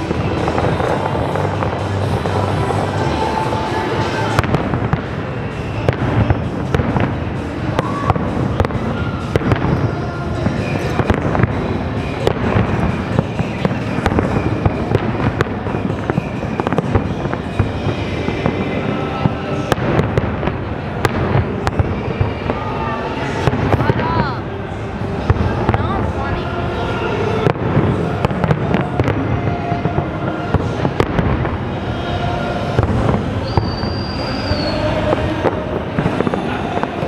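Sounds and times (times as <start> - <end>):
fireworks bangs and crackles: 0.0 - 37.0
music playing: 0.0 - 37.0.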